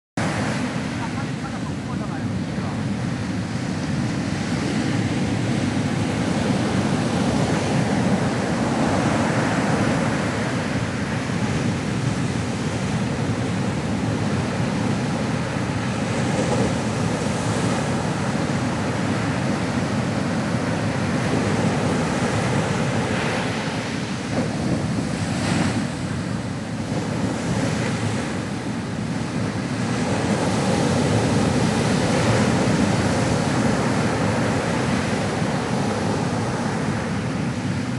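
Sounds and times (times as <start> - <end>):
ocean waves breaking on shore: 0.2 - 37.9
wind noise on microphone: 0.2 - 37.9.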